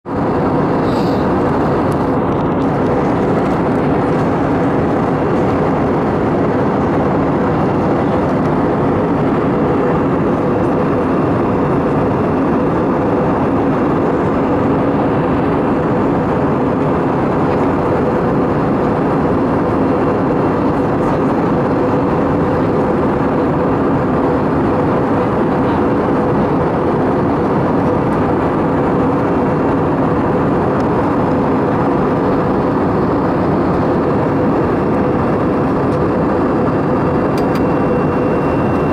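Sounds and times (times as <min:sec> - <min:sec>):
jet engine and airflow drone: 0:00.0 - 0:38.9
steady low hum: 0:00.1 - 0:38.9.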